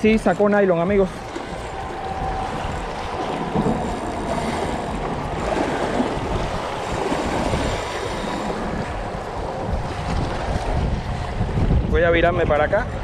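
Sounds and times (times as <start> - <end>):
waves lapping: 0.0 - 13.0
wind buffeting microphone: 0.0 - 13.0.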